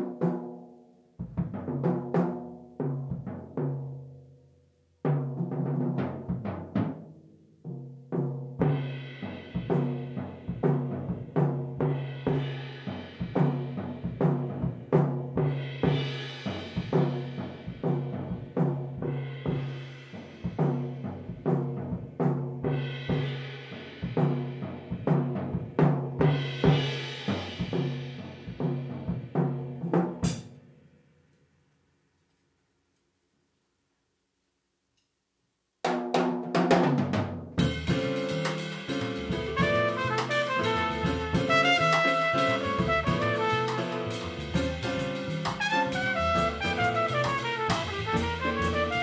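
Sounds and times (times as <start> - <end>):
toms and bass drum: 1.2 - 4.0, 5.1 - 7.0, 7.7 - 30.6, 35.9 - 49.0.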